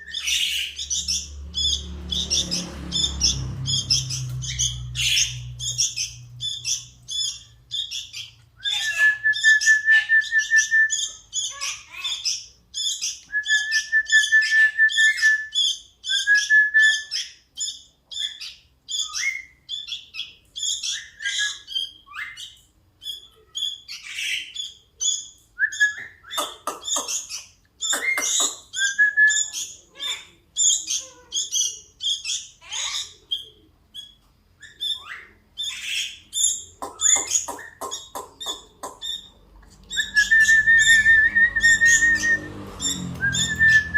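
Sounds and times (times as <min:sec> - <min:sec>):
bird chick begging chirps: 0:00.0 - 0:25.4, 0:26.2 - 0:43.9.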